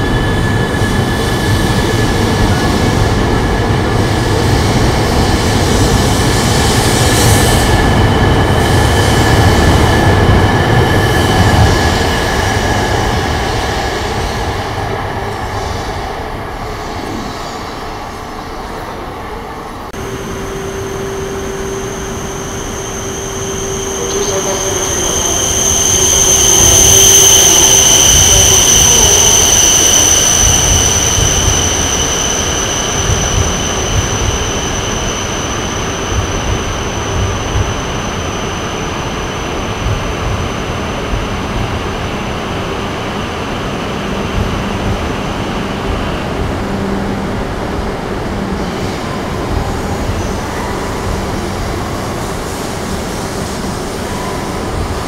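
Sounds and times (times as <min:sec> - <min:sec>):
high steady train squeal: 0:00.0 - 0:55.0
train rumble: 0:00.0 - 0:55.0.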